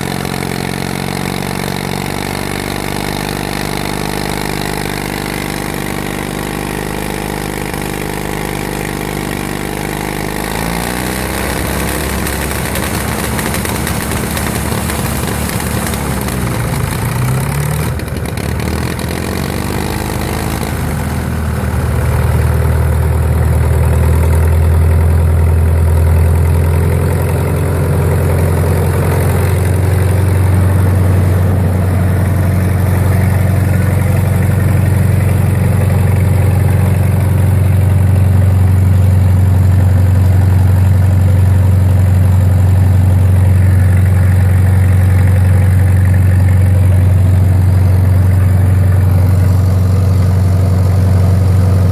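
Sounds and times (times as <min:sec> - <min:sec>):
diesel generator engine running: 0:00.0 - 0:51.9.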